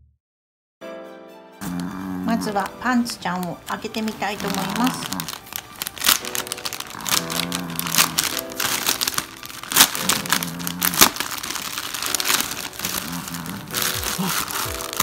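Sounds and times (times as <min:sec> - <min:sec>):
light background music: 0:00.8 - 0:15.0
plastic packaging crinkling: 0:02.5 - 0:15.0.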